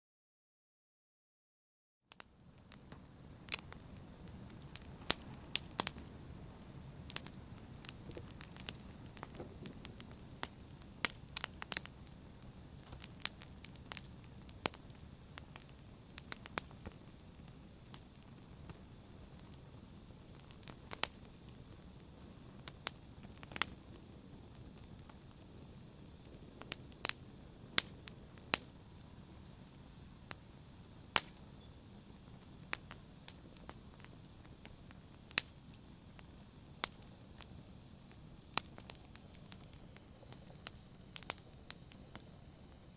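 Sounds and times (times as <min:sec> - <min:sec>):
flames rushing: 0:02.6 - 0:42.9.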